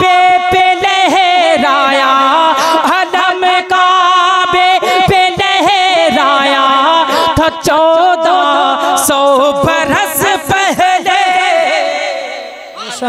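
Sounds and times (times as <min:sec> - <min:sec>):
man singing with echo: 0:00.0 - 0:13.0.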